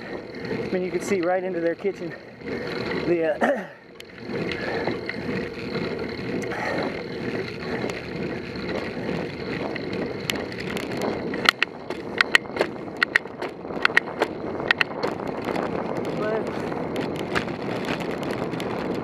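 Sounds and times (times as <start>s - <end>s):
bicycle rolling on asphalt: 0.0s - 19.0s
sharp clicks and rattles: 0.0s - 19.0s
wind noise on camera: 0.0s - 19.0s.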